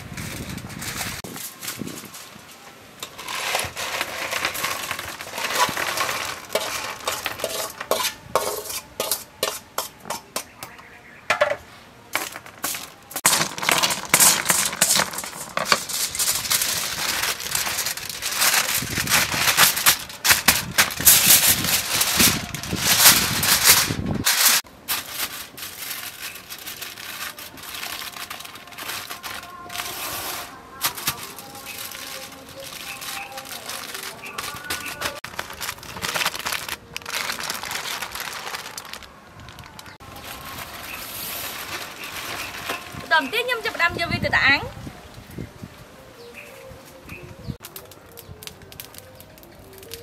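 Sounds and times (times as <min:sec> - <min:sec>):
foil crinkling: 0:00.0 - 0:09.4, 0:12.2 - 0:43.8, 0:47.6 - 0:50.0.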